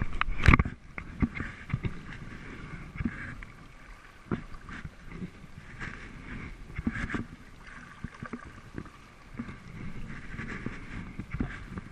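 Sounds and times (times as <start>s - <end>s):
paddle splashing and dripping: 0.2s - 11.9s.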